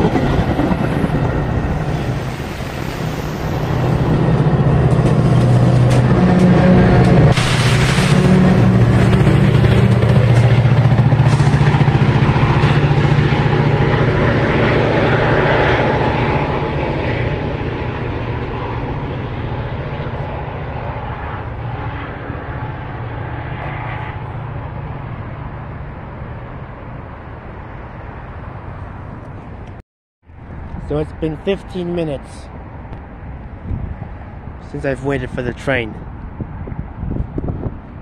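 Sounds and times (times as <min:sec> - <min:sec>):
diesel locomotive engine drone: 0:00.0 - 0:38.0
rail rumble: 0:00.0 - 0:38.0.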